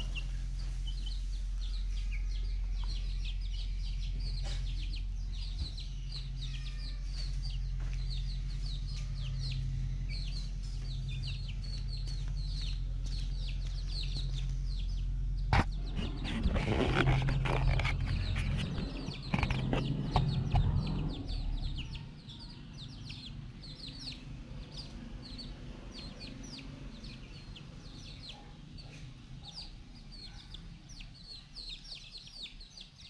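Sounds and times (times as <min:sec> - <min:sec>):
chicks peeping: 0:00.0 - 0:33.0
steady low hum: 0:00.0 - 0:33.0.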